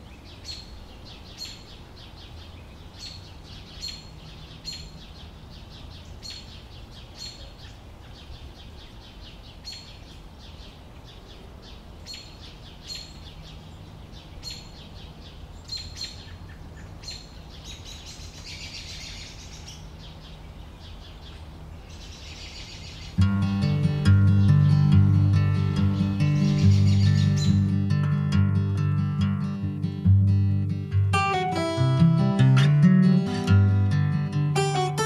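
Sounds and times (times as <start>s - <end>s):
bird chirping: 0.0s - 35.0s.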